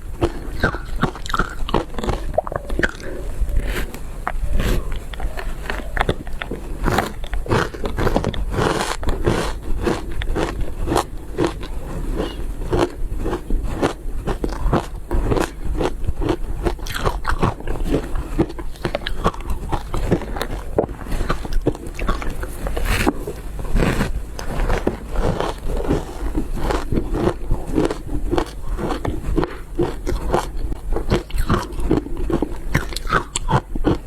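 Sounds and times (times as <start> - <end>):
ice being chewed crunching: 0.0 - 34.0.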